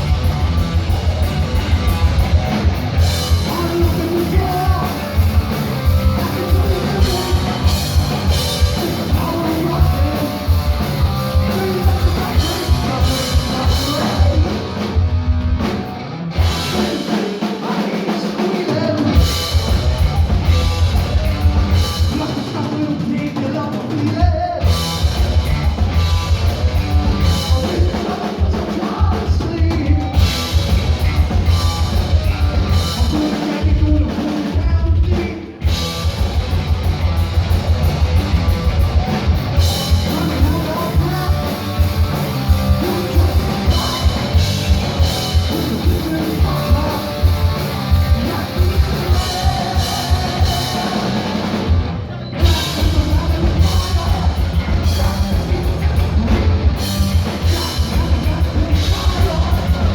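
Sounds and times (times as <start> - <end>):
distorted electric guitars: 0.0 - 59.9.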